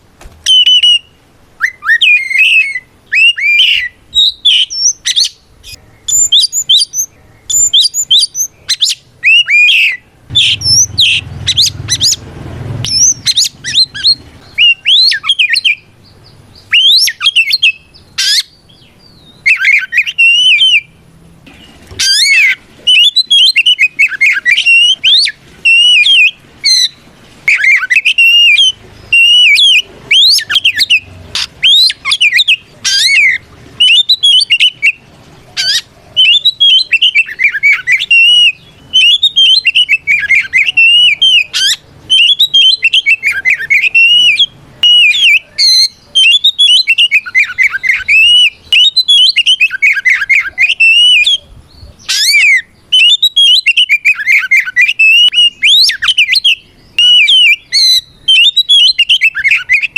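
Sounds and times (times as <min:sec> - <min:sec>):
bird singing whistled phrases: 0:00.4 - 0:12.2, 0:12.8 - 0:21.0, 0:22.0 - 0:35.0, 0:35.6 - 0:59.9.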